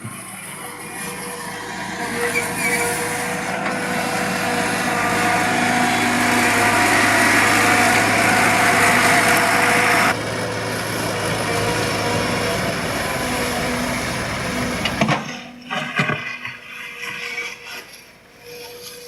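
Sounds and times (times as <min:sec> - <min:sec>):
excavator engine running: 0:00.0 - 0:16.7
hydraulic whine: 0:00.0 - 0:19.0.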